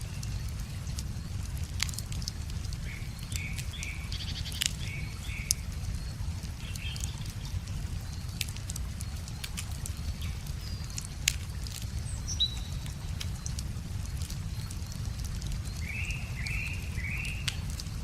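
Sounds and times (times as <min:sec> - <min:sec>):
bird calls and trill: 0:00.0 - 0:18.0
flowing water rumble: 0:00.0 - 0:18.0
wood fire crackling: 0:00.0 - 0:18.0.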